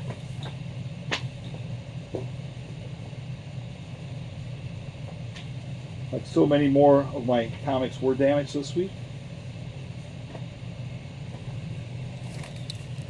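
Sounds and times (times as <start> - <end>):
air handling hum: 0.0 - 13.0.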